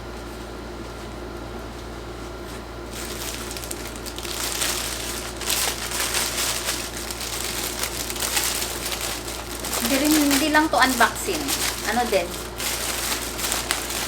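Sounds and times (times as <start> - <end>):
plastic packaging crinkling: 2.5 - 14.0.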